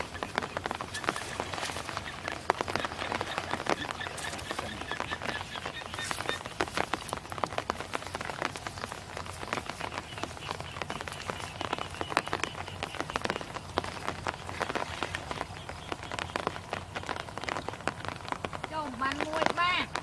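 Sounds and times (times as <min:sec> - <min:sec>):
water pattering and splashing: 0:00.0 - 0:20.0.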